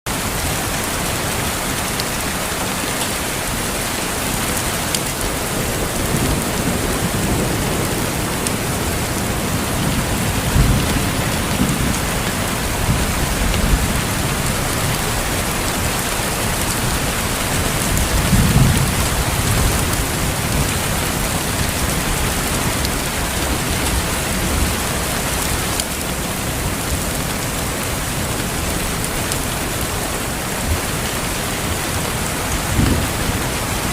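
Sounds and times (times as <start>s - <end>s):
heavy rain: 0.1s - 33.9s
thunder rumbling: 0.1s - 33.9s.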